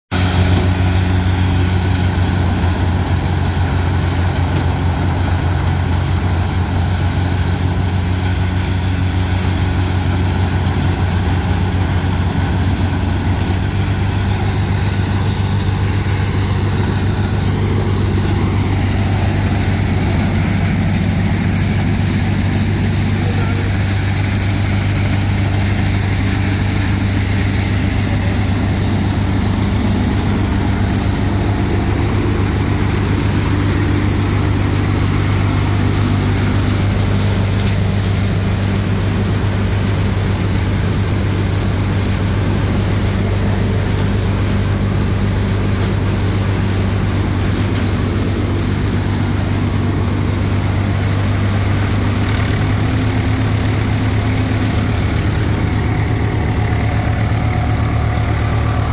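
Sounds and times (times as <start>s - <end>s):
grain thresher engine drone: 0.1s - 58.9s.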